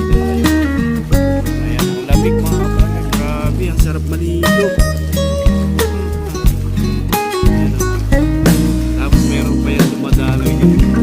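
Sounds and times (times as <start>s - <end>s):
music with drums bass and guitar: 0.0s - 11.0s.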